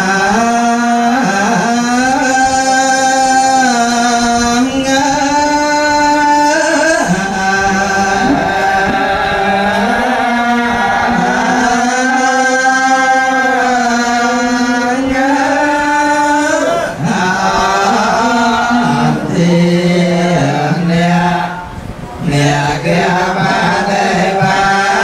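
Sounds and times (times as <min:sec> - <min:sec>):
person chanting long gliding notes: 0:00.0 - 0:25.0.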